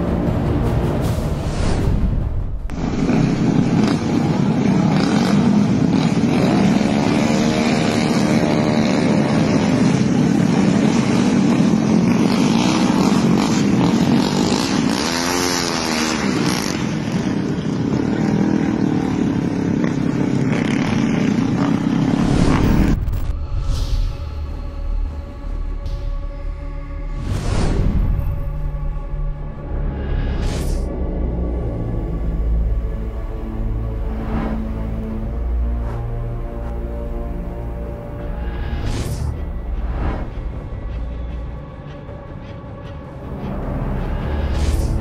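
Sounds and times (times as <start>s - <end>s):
motorcycle engines revving: 2.7s - 23.3s, 29.6s - 45.0s.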